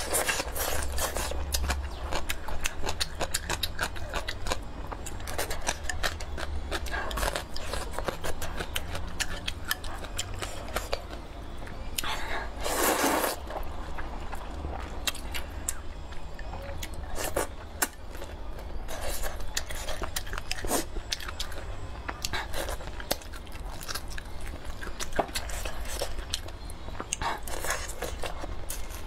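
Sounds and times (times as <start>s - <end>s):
close chewing and biting: 0.0s - 29.0s.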